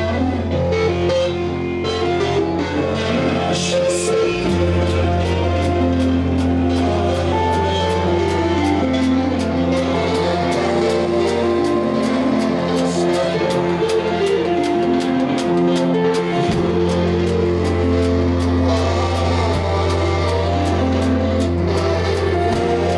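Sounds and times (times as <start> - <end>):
live band playing: 0.0 - 22.9
drum kit beat: 2.0 - 22.9.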